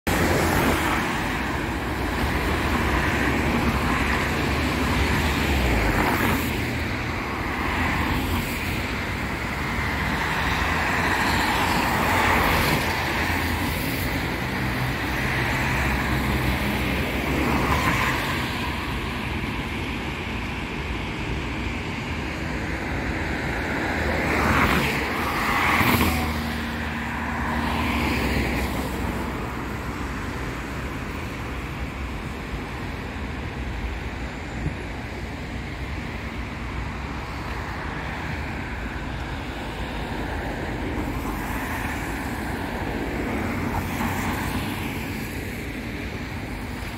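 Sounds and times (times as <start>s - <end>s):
tyres hissing on wet road: 0.1s - 46.9s
vehicle engines passing: 0.1s - 46.9s.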